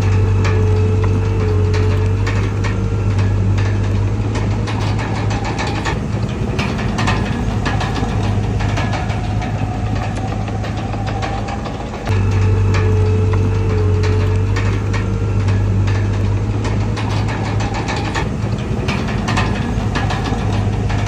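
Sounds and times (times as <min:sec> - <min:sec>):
bulldozer diesel engine running: 0:00.0 - 0:21.0
sharp metallic clanks: 0:00.0 - 0:21.0.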